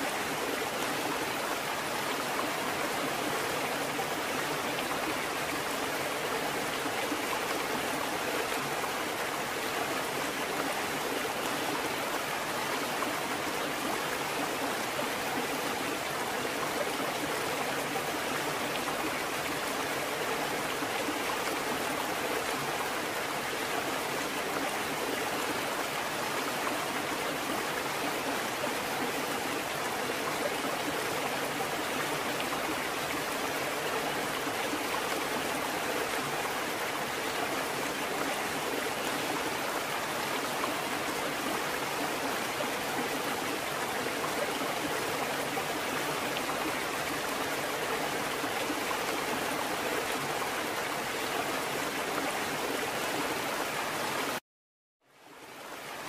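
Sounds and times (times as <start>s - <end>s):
flowing water rushing: 0.0s - 54.4s, 55.1s - 56.0s.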